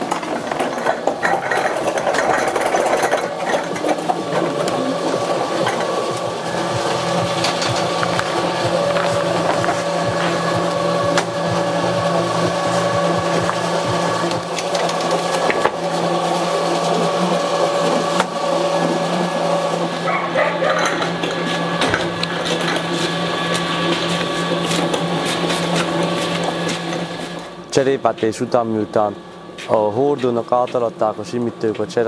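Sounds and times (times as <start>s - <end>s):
machine motor humming: 0.0s - 32.0s.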